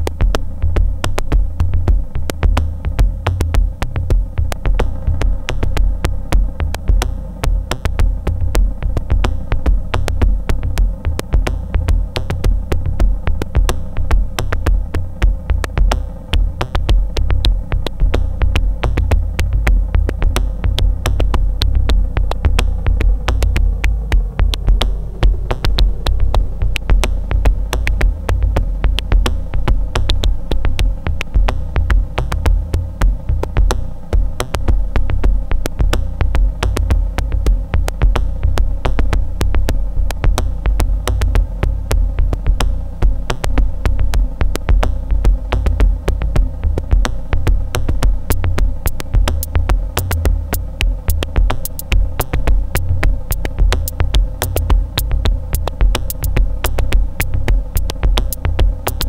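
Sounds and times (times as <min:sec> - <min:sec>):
pulsing low bass: 0:00.0 - 0:59.0
rapid high ticks: 0:00.0 - 0:59.0
steady synth drone: 0:00.0 - 0:59.0.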